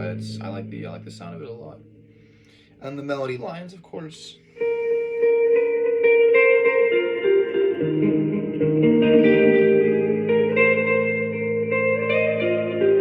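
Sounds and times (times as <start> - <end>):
electric guitar melody with reverb: 0.0 - 2.8, 4.4 - 13.0.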